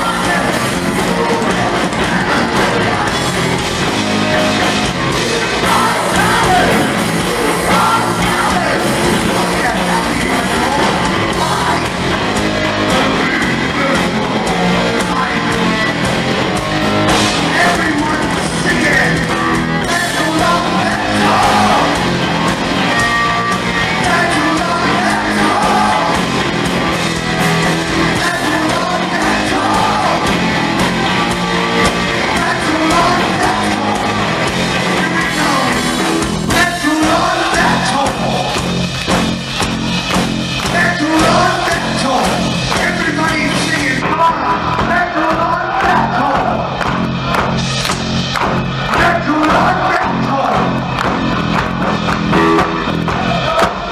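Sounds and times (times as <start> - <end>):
person singing lead vocal: 0.0 - 12.1, 12.7 - 16.0, 17.4 - 26.7, 27.5 - 31.2, 31.8 - 38.7, 40.6 - 46.8, 48.9 - 50.8
heavy metal band playing live: 0.0 - 53.9.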